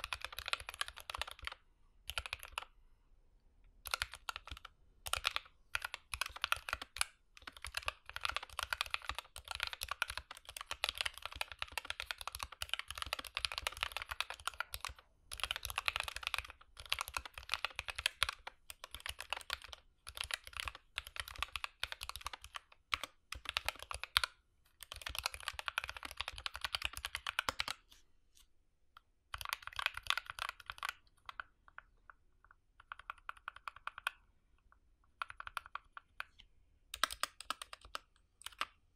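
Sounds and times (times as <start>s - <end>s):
typing on mechanical keyboard: 0.0s - 2.8s, 3.8s - 27.8s, 29.3s - 38.8s.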